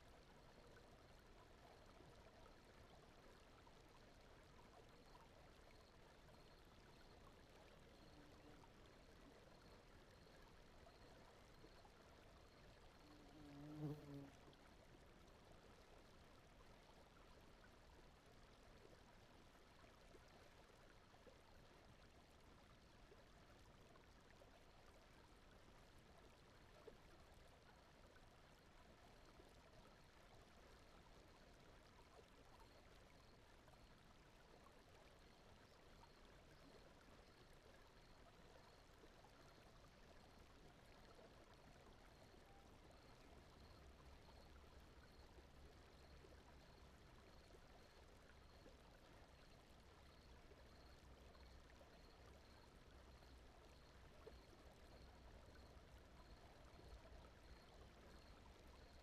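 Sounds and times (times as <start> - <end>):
gentle flowing water: 0.0 - 59.0.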